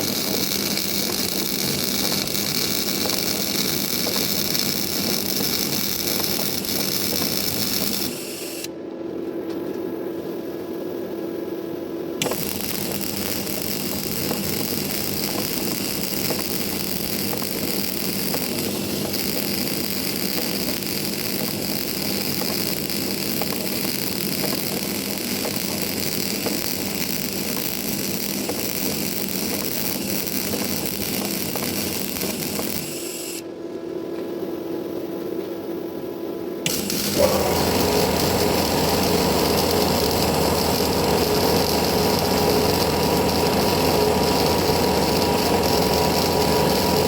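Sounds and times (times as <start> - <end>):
welding arc crackling: 0.0 - 8.7, 12.2 - 33.4, 36.6 - 47.0
machine hum: 0.0 - 47.0.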